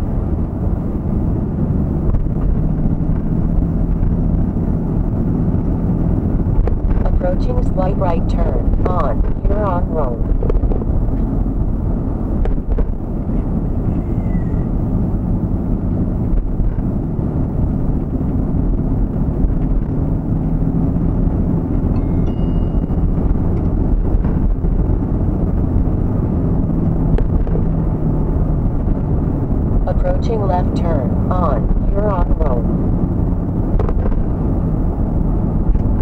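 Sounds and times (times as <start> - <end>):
vehicle road and engine rumble: 0.0 - 36.0.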